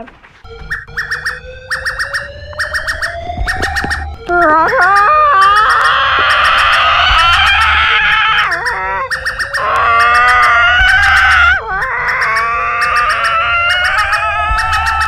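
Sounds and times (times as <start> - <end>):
electronic alert tones: 0.4 - 15.0
rapid clicking: 0.6 - 15.0.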